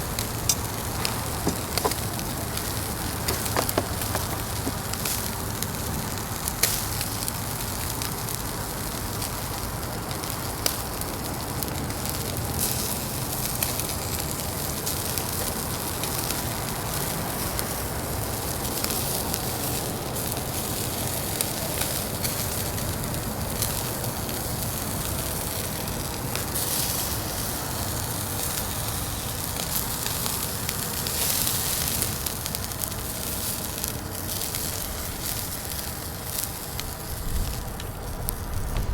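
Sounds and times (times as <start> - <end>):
fire hissing and crackling: 0.0 - 38.9.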